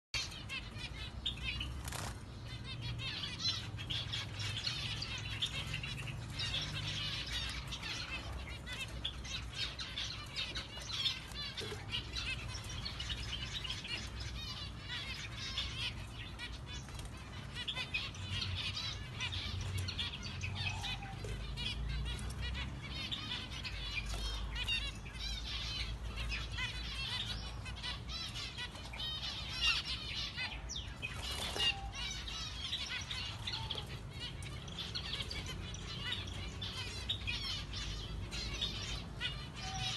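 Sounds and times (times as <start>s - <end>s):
finches chirping: 0.2s - 39.9s.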